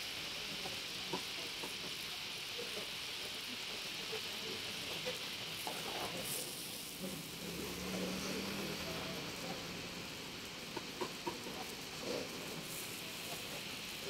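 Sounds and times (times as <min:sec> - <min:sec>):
meat sizzling in hot oil: 0:00.0 - 0:14.0
oil popping and crackling: 0:00.2 - 0:14.0.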